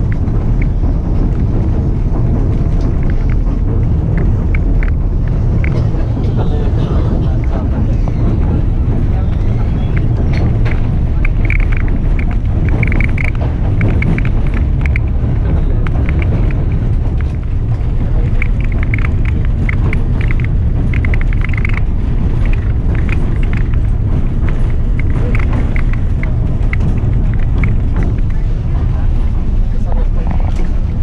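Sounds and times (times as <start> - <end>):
train rumbling on track: 0.0 - 31.0
high squeaks and clicks: 2.6 - 28.5.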